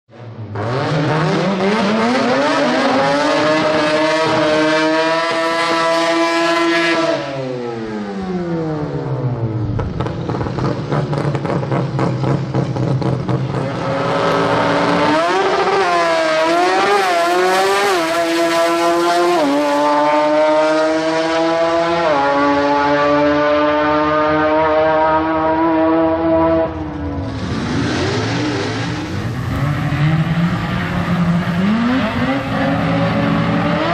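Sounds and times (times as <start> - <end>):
rotary engine revving: 0.6 - 33.9.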